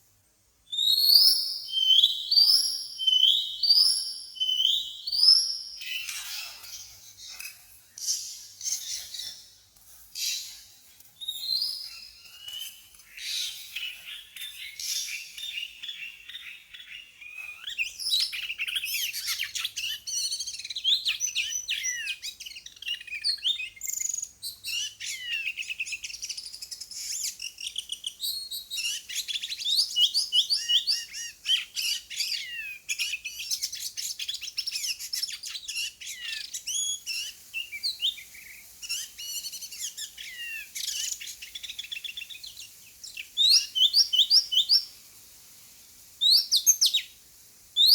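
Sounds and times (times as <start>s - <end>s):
bird singing whistled phrases: 0.7s - 6.6s, 11.2s - 26.6s, 27.2s - 44.9s.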